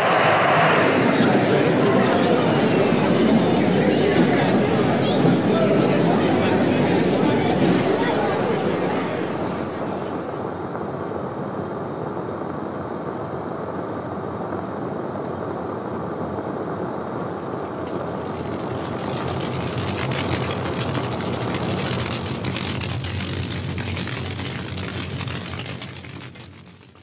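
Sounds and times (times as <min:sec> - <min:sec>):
machine drone: 0:00.0 - 0:27.0.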